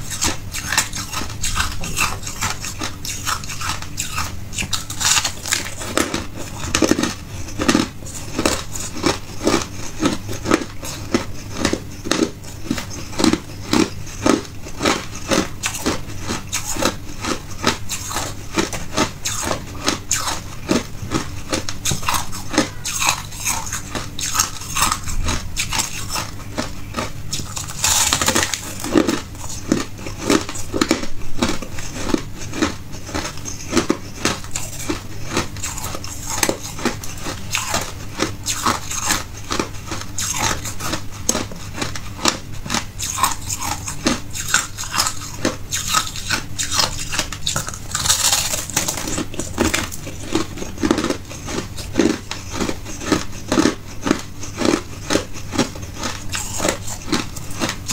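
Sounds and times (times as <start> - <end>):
ice being chewed: 0.0 - 57.9.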